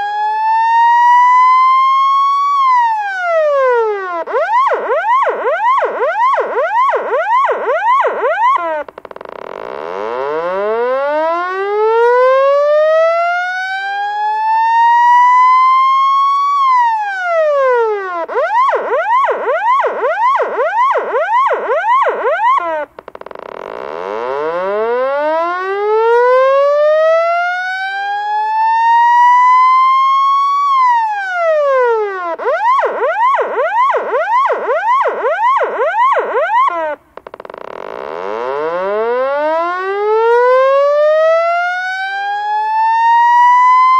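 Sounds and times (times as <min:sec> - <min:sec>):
electronic police siren: 0:00.0 - 0:43.9.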